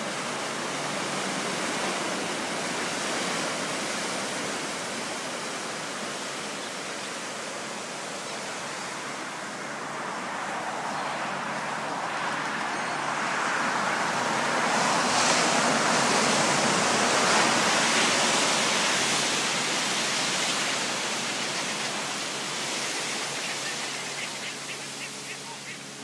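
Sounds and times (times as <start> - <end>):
wave breaking and washing in: 0.0 - 26.0.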